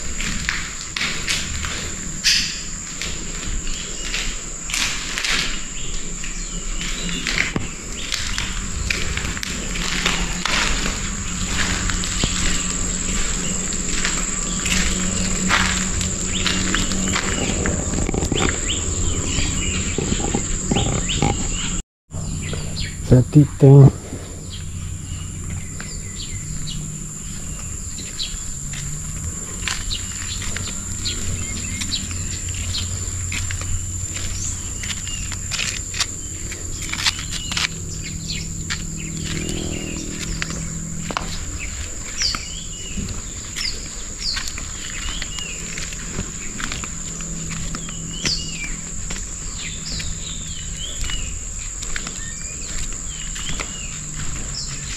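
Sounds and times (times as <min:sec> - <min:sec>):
footsteps on gravel: 0:00.0 - 0:21.8, 0:24.5 - 0:54.9
insects shrilling: 0:00.0 - 0:21.8, 0:23.1 - 0:54.9
birds chirping: 0:00.0 - 0:54.9
low rumble: 0:05.6 - 0:54.9.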